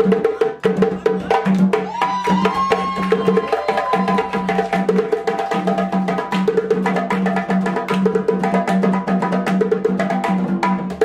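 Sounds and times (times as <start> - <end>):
hand drums playing fast rhythm: 0.0 - 11.0.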